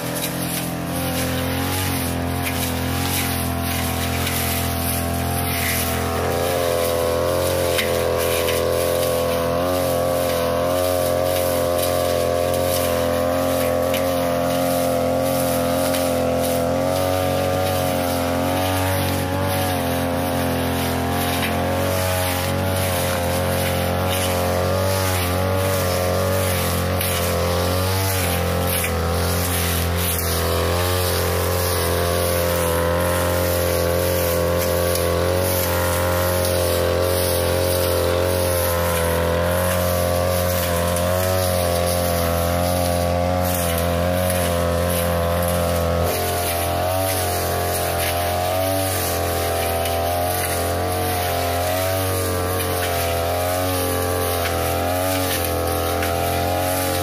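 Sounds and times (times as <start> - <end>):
blade cutting grass: 0.0 - 57.0
brush cutter engine running: 0.0 - 57.0.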